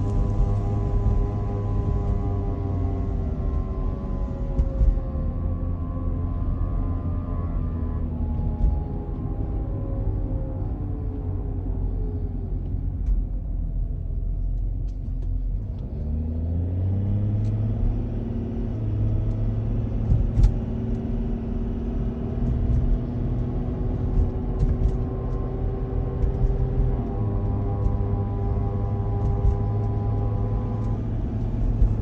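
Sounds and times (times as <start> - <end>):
car humming tone: 0.0 - 13.6, 16.6 - 32.0.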